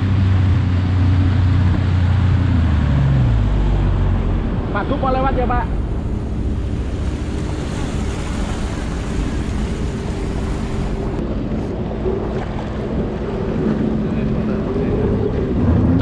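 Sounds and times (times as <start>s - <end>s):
jet ski engine running: 0.0s - 16.0s
water rushing and splashing: 0.0s - 16.0s
wind buffeting microphone: 0.0s - 16.0s.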